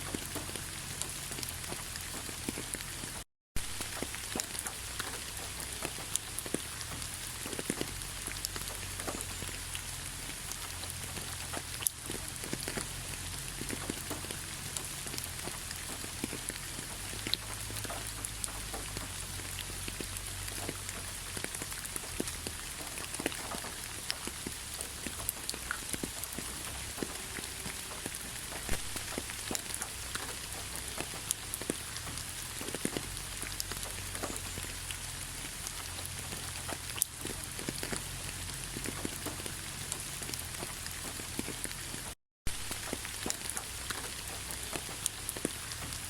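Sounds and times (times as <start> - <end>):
raindrops ticking: 0.0 - 46.0
steady rainfall: 0.0 - 46.0.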